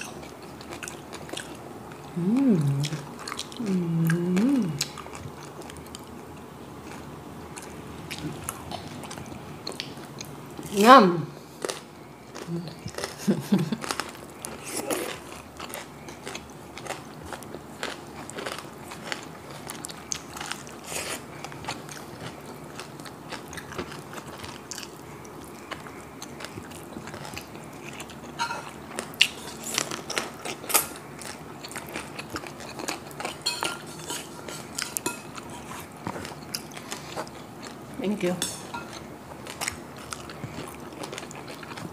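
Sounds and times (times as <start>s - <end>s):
crunchy chewing of fried meat: 0.0s - 10.7s, 11.4s - 41.9s.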